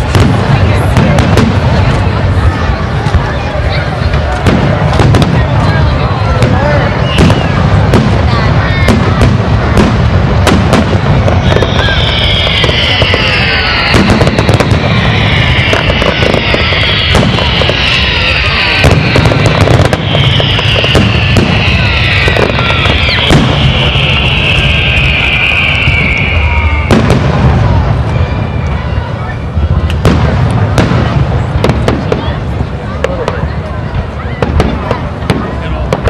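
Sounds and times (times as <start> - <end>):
fireworks bursting: 0.0 - 36.0
fireworks whistling whines: 0.0 - 36.0.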